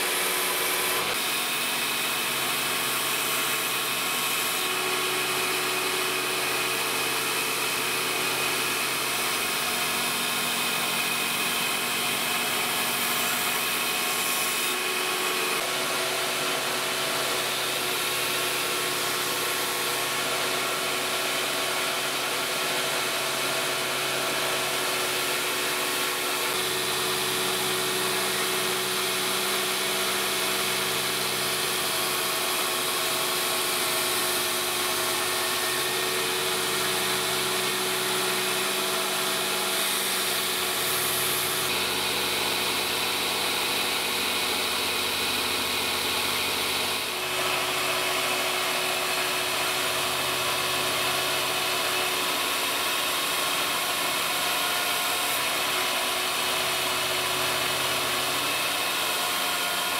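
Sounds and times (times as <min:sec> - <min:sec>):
belt grinder grinding steel: 0:00.0 - 0:59.9.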